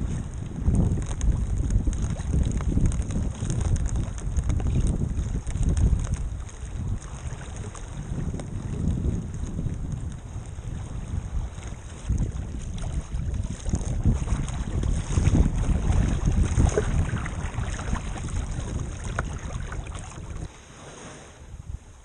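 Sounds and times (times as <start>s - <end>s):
water splashing: 0.0s - 21.3s
wind buffeting microphone: 0.0s - 22.0s.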